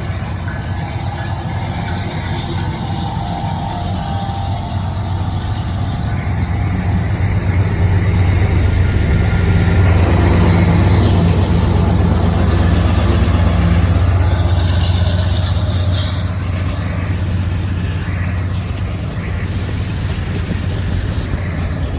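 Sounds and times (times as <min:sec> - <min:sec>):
diesel locomotive engine drone: 0:00.0 - 0:21.9.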